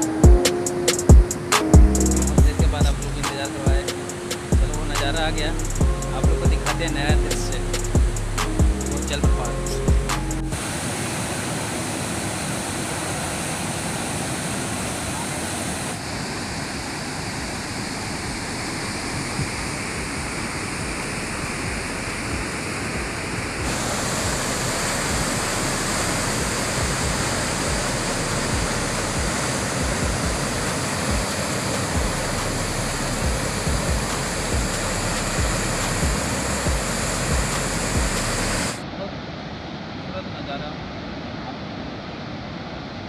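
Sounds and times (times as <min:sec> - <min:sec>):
waterfall roaring: 0:00.0 - 0:40.5.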